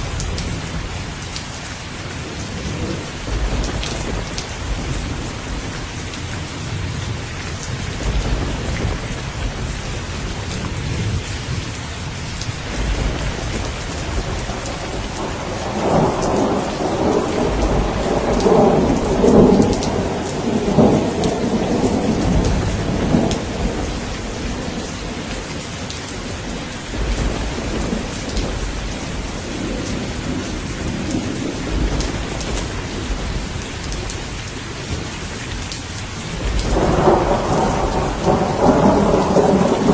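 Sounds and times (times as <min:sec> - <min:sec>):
rolling thunder: 0:00.0 - 0:39.9
steady rain: 0:00.0 - 0:39.9.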